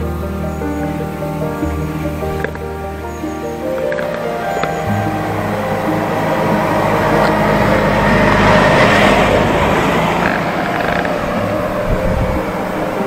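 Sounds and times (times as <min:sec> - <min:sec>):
background music: 0:00.0 - 0:13.0
vehicle road noise: 0:00.0 - 0:13.0.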